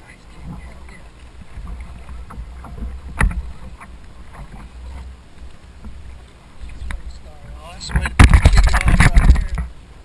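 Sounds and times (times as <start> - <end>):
small water splashes: 0.0 - 10.0
water lapping against kayak hull: 0.0 - 10.0
low rumble: 0.3 - 9.6.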